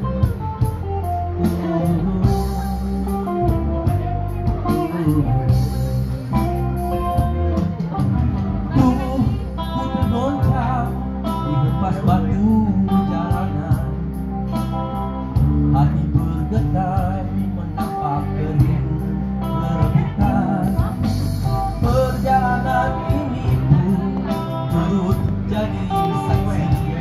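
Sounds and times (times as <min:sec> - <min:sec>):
man singing into a microphone: 0:00.0 - 0:06.2, 0:08.6 - 0:27.0
instrumental accompaniment: 0:00.0 - 0:27.0.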